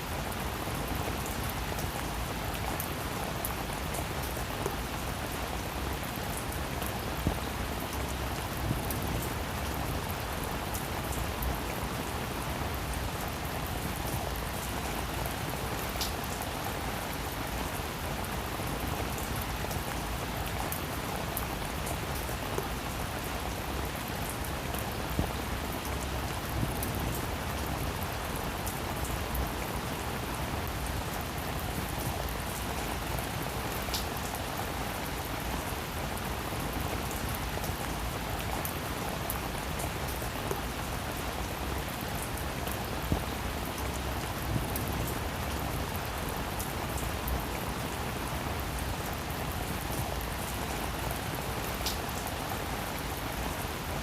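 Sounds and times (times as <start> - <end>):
rain falling on a roof: 0.0 - 54.0.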